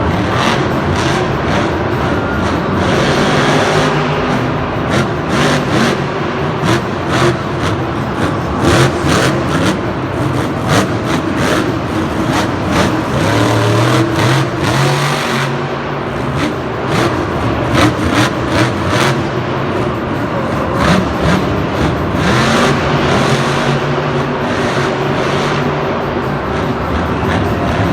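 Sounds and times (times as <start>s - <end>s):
vehicle engine revving: 0.0s - 27.9s.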